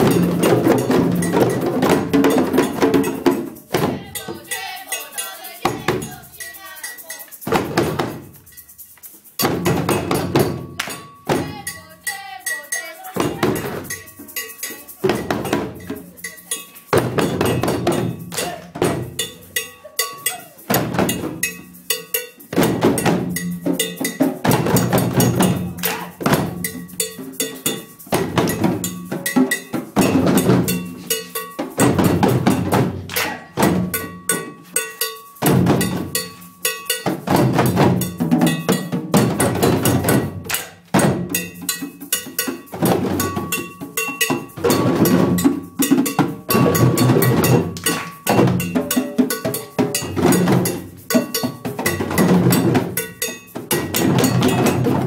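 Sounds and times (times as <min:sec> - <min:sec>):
djembes played by hand: 0:00.0 - 0:55.0.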